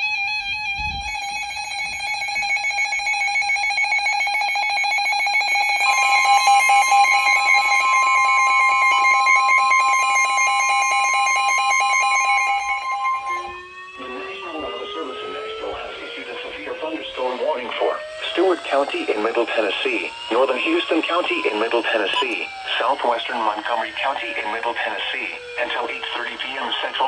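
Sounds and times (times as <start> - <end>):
rapidly pulsing electronic alarm: 0.0 - 27.0
steady warning alarm tone: 0.0 - 27.0.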